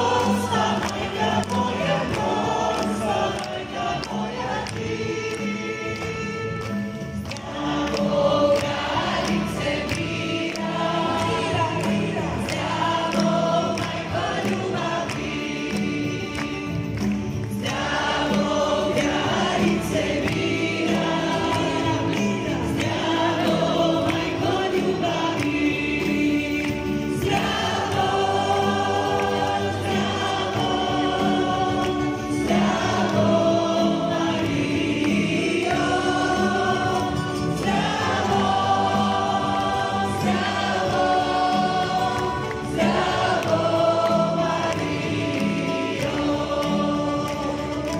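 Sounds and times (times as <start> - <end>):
congregation singing: 0.0 - 47.9
live worship band: 0.0 - 47.9.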